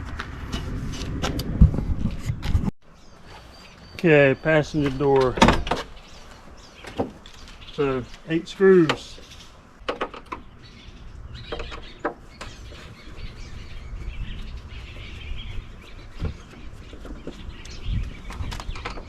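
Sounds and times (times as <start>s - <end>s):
faint birds chirping: 2.8s - 19.0s.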